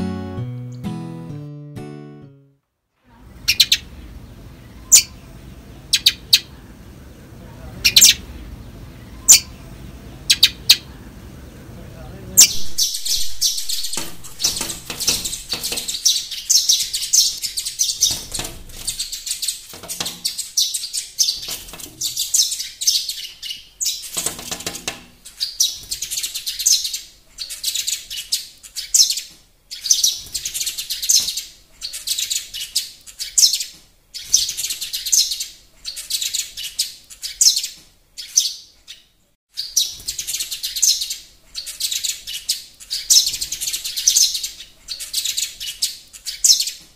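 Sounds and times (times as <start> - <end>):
sparrows chirping: 3.1 - 46.9.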